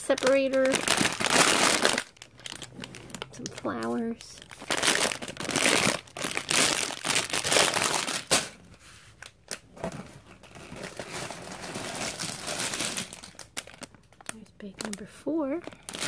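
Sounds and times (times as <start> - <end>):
plastic bags crinkling: 0.0 - 16.0.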